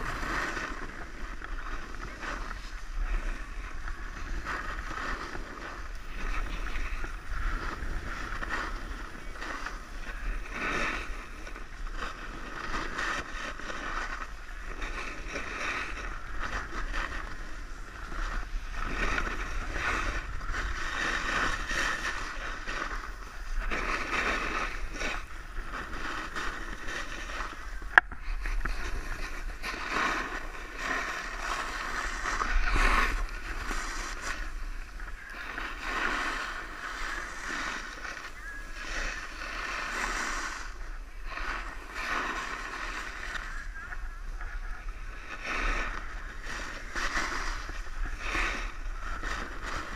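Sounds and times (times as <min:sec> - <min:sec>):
snowboard scraping snow: 0:00.0 - 0:49.9
wind rumble on microphone: 0:00.0 - 0:49.9.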